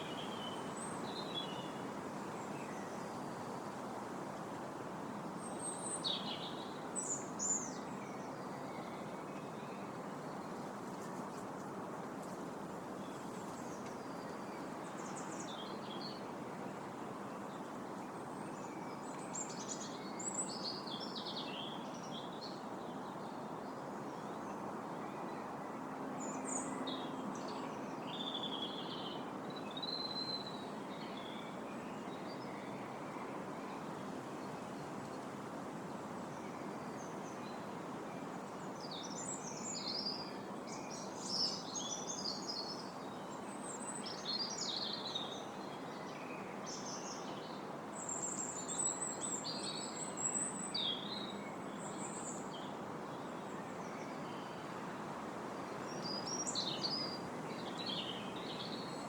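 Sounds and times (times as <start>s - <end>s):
wind rushing through trees: 0.0s - 59.0s.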